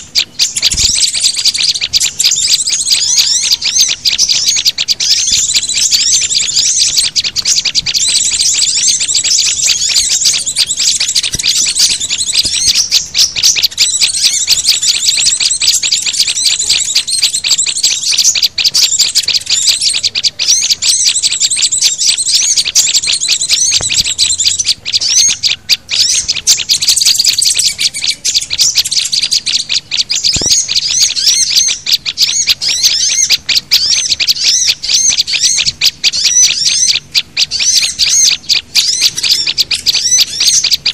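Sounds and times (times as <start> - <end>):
small songbirds chirping and trilling: 0.0 - 40.9.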